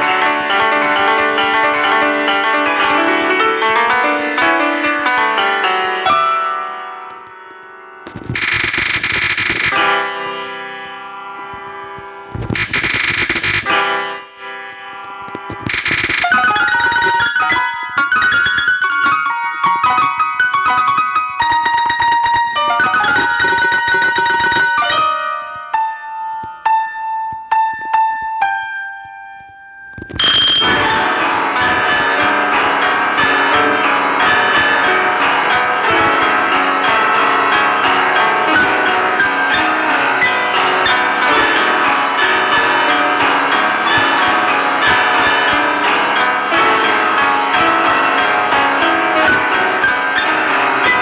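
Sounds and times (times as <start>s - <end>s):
electric piano melody: 0.0s - 51.0s.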